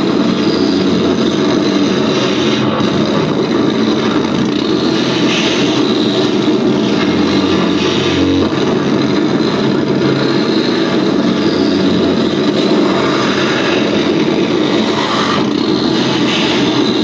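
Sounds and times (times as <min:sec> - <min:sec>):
distorted electronic noise drone: 0:00.0 - 0:17.0.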